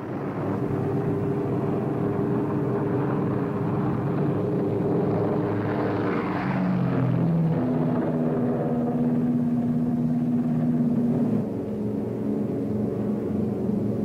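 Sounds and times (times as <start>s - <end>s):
propeller aircraft engines droning: 0.0s - 14.0s.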